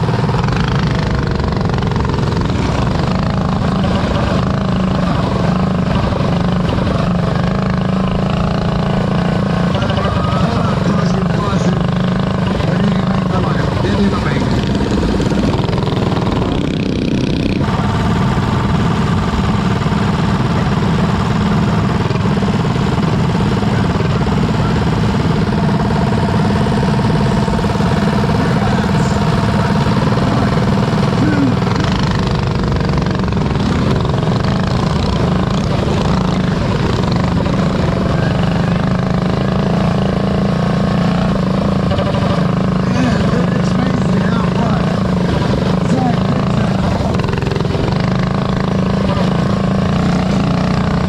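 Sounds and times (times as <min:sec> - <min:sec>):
mini bike engines racing: 0:00.0 - 0:51.0.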